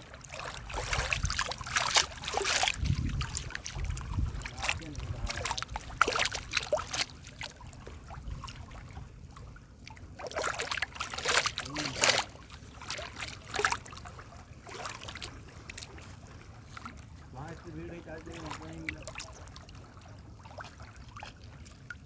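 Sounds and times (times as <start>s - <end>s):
low steady rumble: 0.0s - 22.0s
water splashing against boat: 0.0s - 22.0s.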